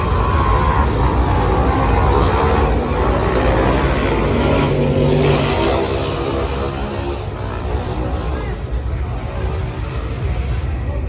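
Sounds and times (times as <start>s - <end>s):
car engine rumbling: 0.0s - 9.6s.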